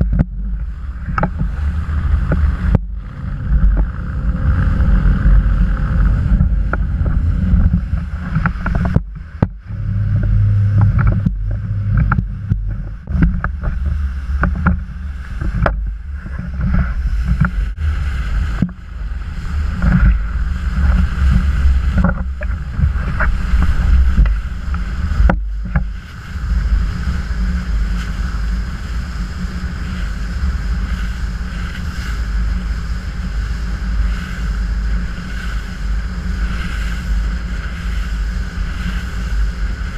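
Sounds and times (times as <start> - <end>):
motorboat engine rumble: 0.0 - 39.9
wind buffeting microphone: 0.0 - 39.9.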